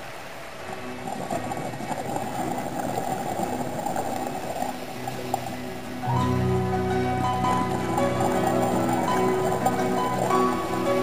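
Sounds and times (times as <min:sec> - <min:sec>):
underwater bubbling hiss: 0:00.0 - 0:11.0.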